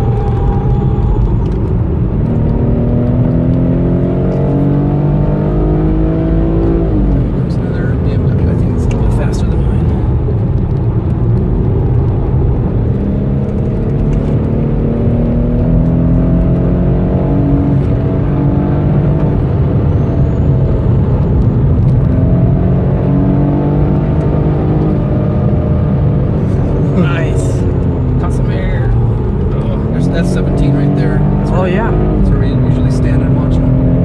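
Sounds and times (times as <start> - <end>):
car engine revving at speed: 0.0 - 34.0
road and tyre rumble: 0.0 - 34.0.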